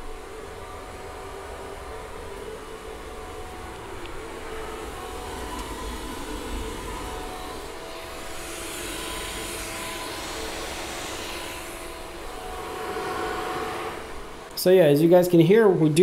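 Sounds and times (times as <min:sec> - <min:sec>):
cooling fans whirring: 0:00.0 - 0:16.0
faint steady tones: 0:00.0 - 0:16.0.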